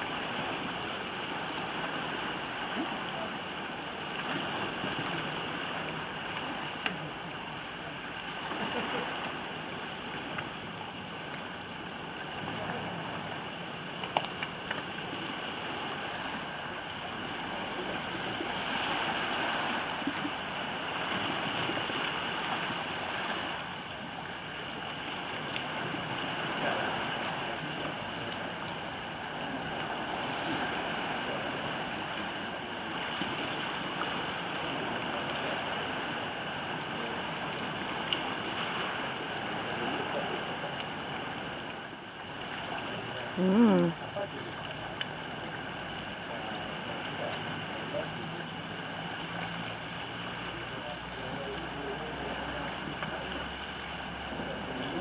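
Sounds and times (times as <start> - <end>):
waves washing against rocks: 0.0 - 55.0.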